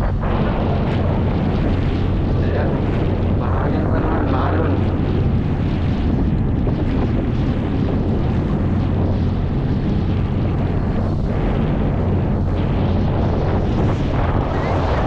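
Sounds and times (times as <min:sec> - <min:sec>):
boat engine droning: 0:00.0 - 0:15.0
wind noise on microphone: 0:00.0 - 0:15.0.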